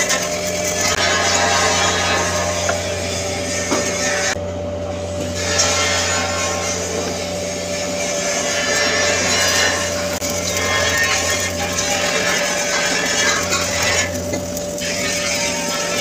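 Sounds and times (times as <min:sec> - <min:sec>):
welding arc crackling: 0:00.0 - 0:16.0.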